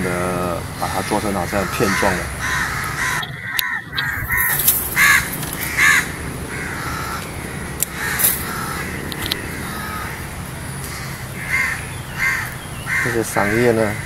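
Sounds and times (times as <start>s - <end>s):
bird calling: 0.0s - 14.0s.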